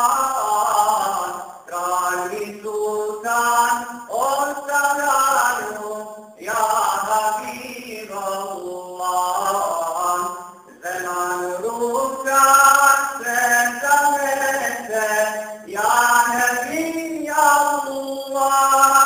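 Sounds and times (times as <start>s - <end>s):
man singing a devotional hymn: 0.0s - 19.0s.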